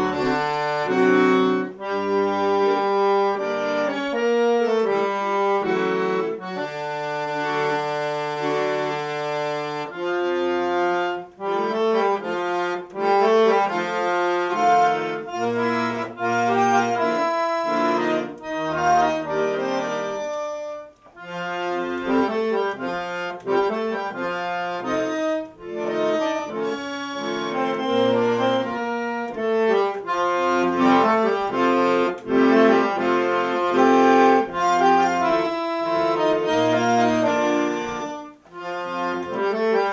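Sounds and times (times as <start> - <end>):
accordion playing: 0.0 - 39.9.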